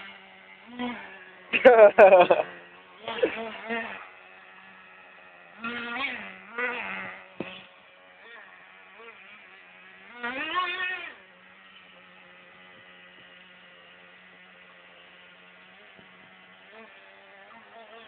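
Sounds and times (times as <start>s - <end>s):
small gas engine idling and revving: 0.0s - 18.0s.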